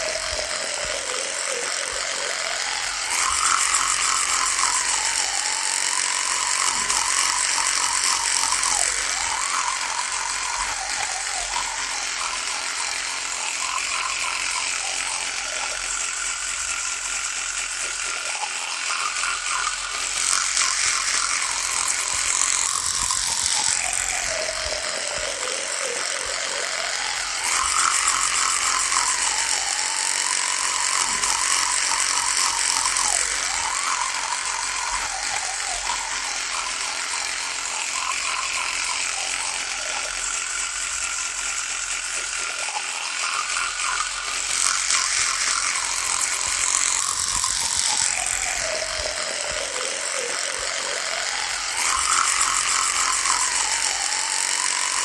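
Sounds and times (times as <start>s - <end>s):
electric toothbrush buzzing: 0.0s - 55.0s.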